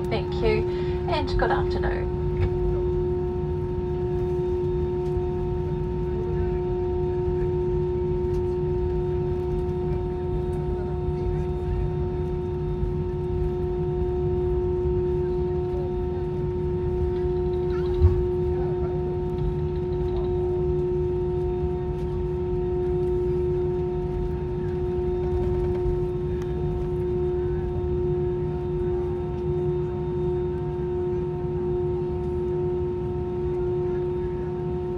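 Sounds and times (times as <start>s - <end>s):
aircraft cabin rumble: 0.0s - 34.9s
jet engine whine: 0.0s - 34.9s.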